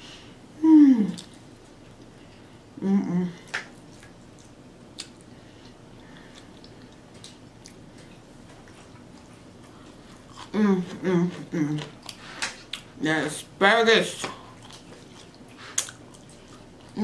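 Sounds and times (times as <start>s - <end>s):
person chewing: 1.1s - 2.4s, 3.4s - 13.0s, 14.2s - 17.0s.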